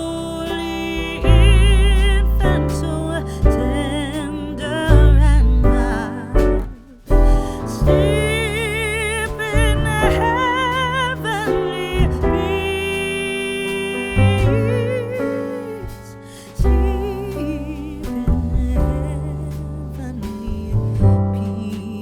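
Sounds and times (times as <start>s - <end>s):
deep bass notes: 0.0s - 22.0s.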